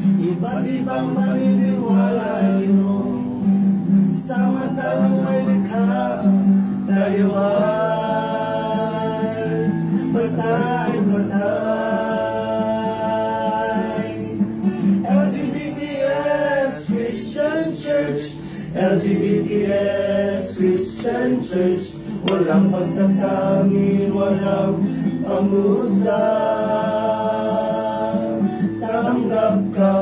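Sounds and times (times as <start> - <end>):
acoustic guitar: 0.0 - 30.0
men singing a hymn: 0.0 - 30.0.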